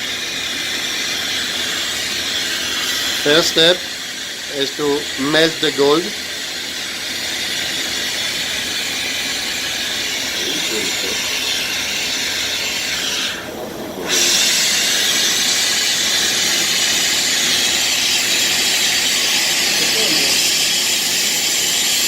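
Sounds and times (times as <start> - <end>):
melting equipment hissing: 0.0 - 22.0.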